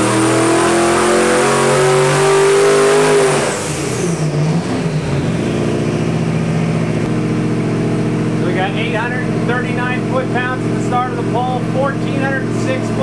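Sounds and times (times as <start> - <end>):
engine revving with whine: 0.0 - 13.0.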